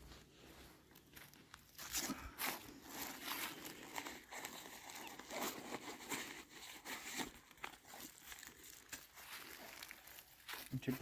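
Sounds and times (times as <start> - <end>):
nylon rustling and crinkling: 0.0 - 11.0
dry leaves crinkling: 0.9 - 11.0.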